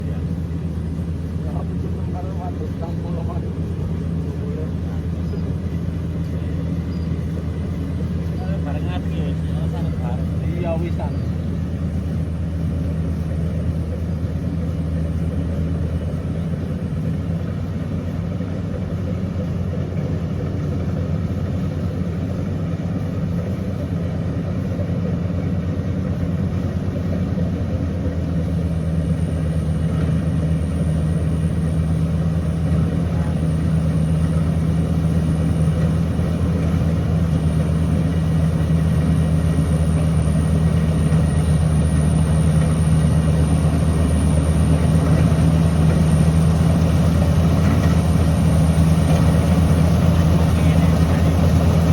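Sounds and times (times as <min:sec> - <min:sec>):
faint high whine: 0:00.0 - 0:51.9
harvester engine drone: 0:00.0 - 0:51.9.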